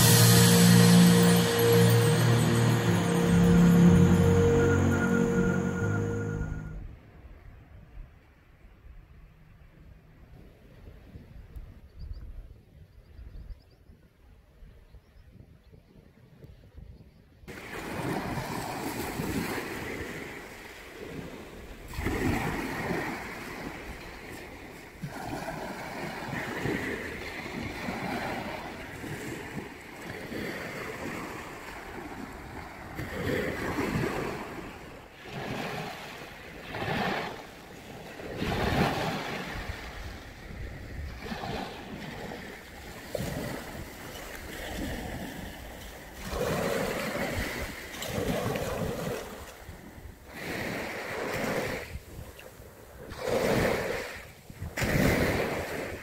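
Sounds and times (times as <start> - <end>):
sea waves washing onto shore: 0.0 - 6.7, 17.5 - 56.0.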